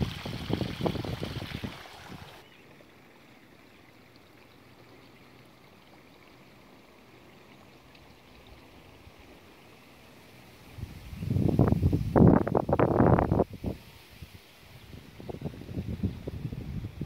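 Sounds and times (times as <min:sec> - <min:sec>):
light breeze through rice: 0:00.0 - 0:17.0.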